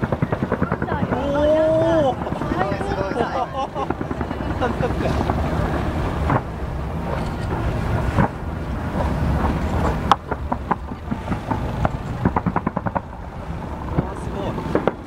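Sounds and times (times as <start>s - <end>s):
fireworks bangs and crackling: 0.0s - 15.0s
low rumble: 0.0s - 15.0s.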